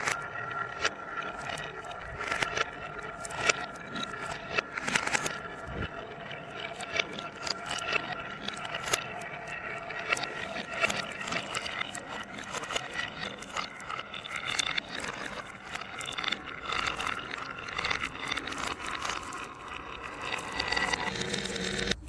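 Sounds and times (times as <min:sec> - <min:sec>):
marbles rattling down wooden track: 0:00.0 - 0:22.0.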